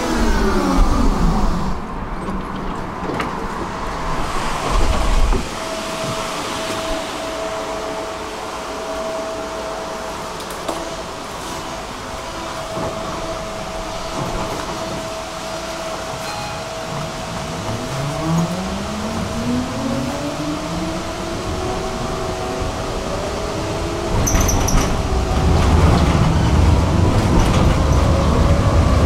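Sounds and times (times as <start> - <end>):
tram rushing hum: 0.0 - 29.0.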